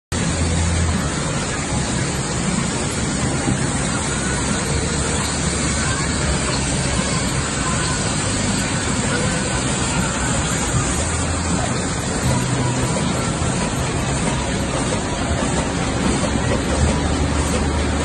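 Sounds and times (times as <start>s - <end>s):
printing machine running: 0.1s - 18.0s.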